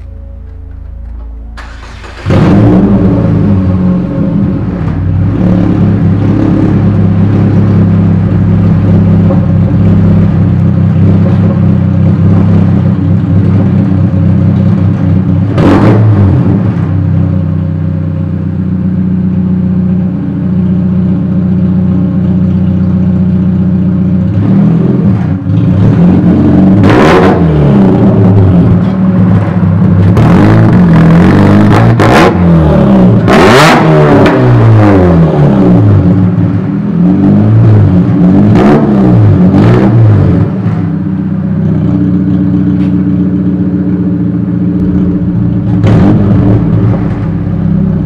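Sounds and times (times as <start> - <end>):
loud car engine idling and revving: 0.0 - 48.0.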